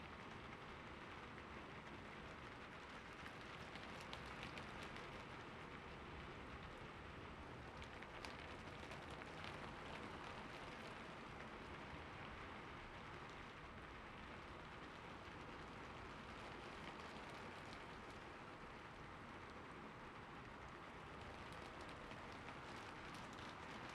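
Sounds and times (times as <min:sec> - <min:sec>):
light rain falling: 0:00.0 - 0:23.9
raindrop ticks: 0:01.3 - 0:06.8, 0:07.5 - 0:19.7, 0:20.4 - 0:23.9.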